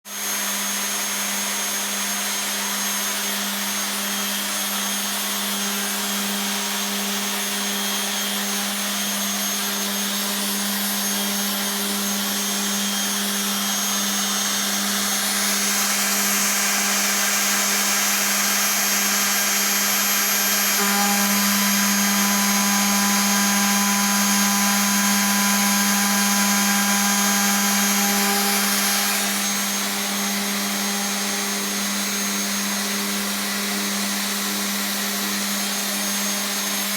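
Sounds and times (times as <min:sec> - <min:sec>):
router running: 0:00.1 - 0:36.9.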